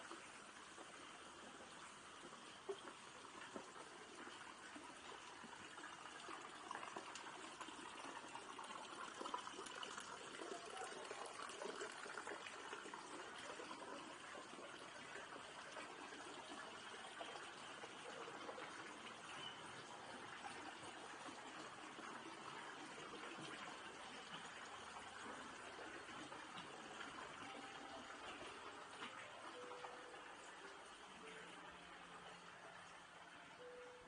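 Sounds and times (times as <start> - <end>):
faint trickle of water: 0.0 - 34.0.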